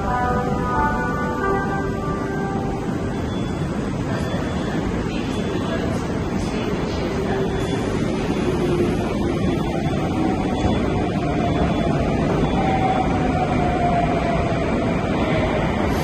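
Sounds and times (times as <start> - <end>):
faint train whine: 0.0 - 16.0
metro train rumbling: 0.0 - 16.0.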